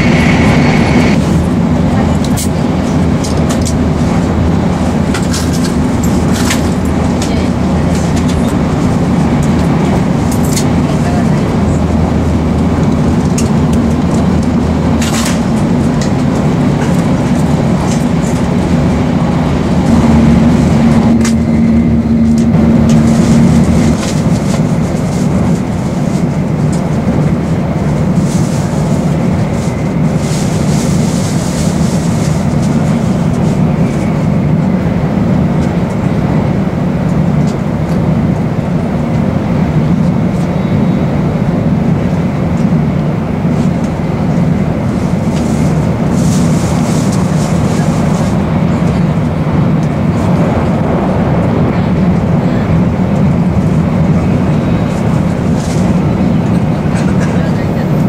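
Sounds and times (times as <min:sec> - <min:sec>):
low steady hum: 0:00.0 - 0:58.0
train rumble and hiss: 0:00.0 - 0:58.0.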